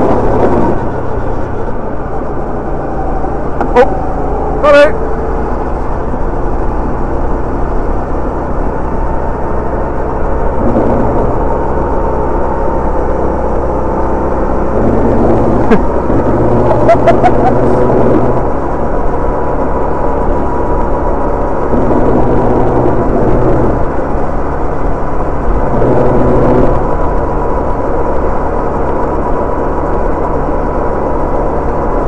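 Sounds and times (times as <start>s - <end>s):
kart engine: 0.0s - 32.0s.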